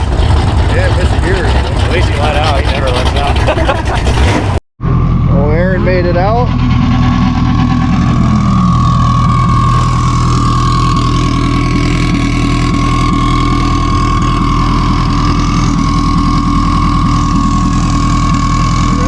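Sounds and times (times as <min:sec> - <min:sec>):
car engine idling: 0:00.0 - 0:19.0
constant high whine: 0:00.0 - 0:19.0.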